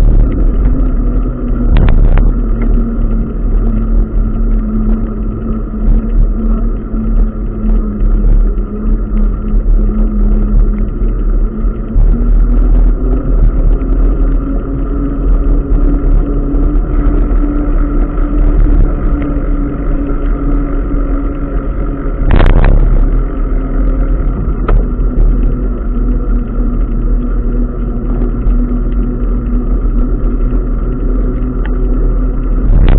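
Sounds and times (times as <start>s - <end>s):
humming engine: 0.0s - 32.9s
road traffic rumble: 0.0s - 32.9s
wind: 0.0s - 32.9s.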